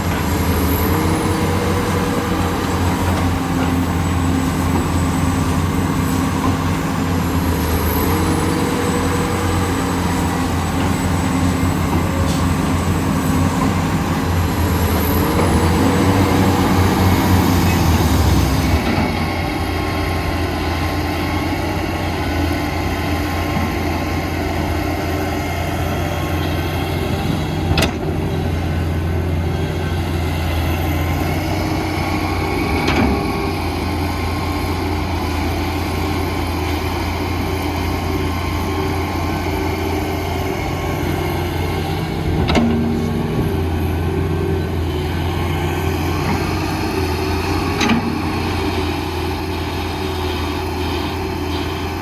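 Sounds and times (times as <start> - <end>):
engine whines: 0.0 - 52.0
heavy diesel engines under load: 0.0 - 52.0.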